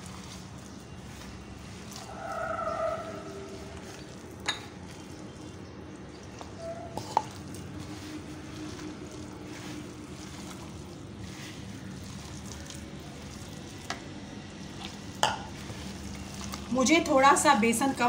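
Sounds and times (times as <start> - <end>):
hand squelching batter mixture: 0.0 - 18.0.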